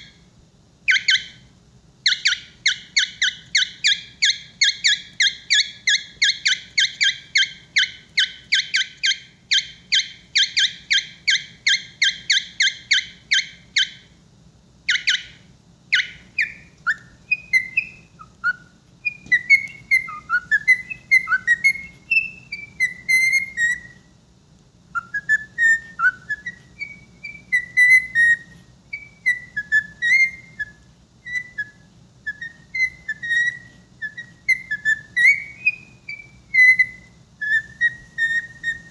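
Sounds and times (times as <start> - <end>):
bird whistled chirps and warbles: 0.0 - 14.2, 14.8 - 24.2, 24.9 - 38.9.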